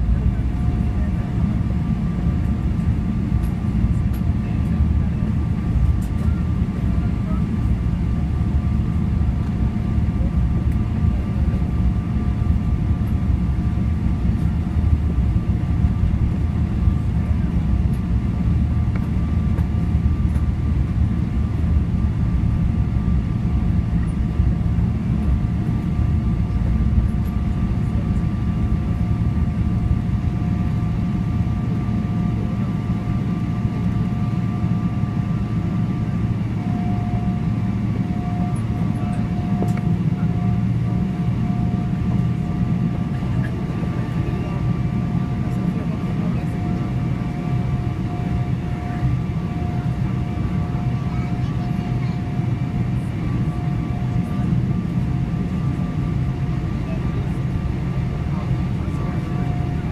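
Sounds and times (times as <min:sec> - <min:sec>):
aircraft cabin rumble: 0:00.0 - 0:59.9
jet engine whine: 0:00.0 - 0:59.9.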